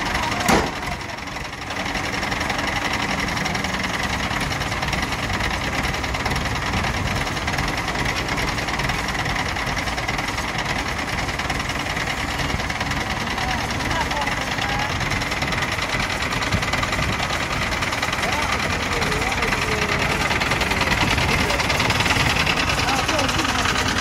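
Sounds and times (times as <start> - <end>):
crane engine running under load: 0.0 - 24.0.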